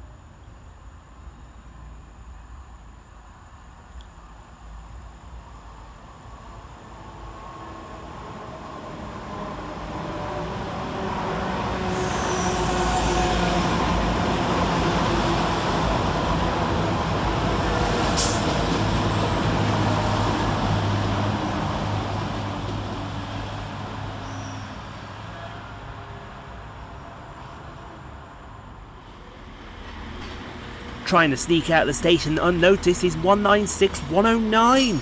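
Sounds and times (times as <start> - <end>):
diesel train engine drone: 0.0 - 35.0.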